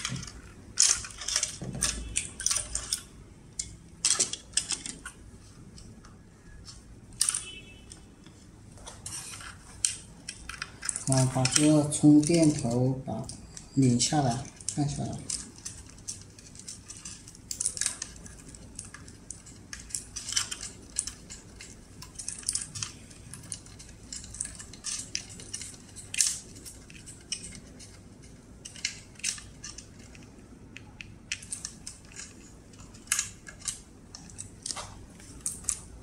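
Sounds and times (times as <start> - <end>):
plastic connectors clicking and rattling: 0.0 - 8.0, 8.8 - 36.0.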